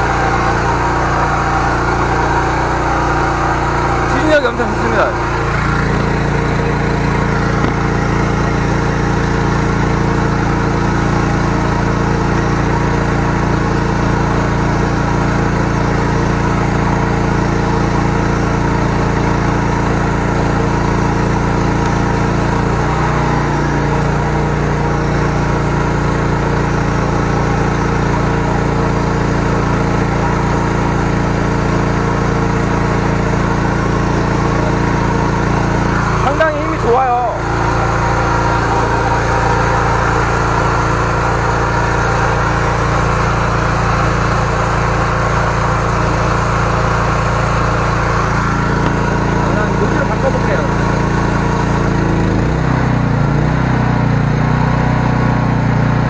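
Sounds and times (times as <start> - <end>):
pump engine running steadily: 0.0 - 56.0.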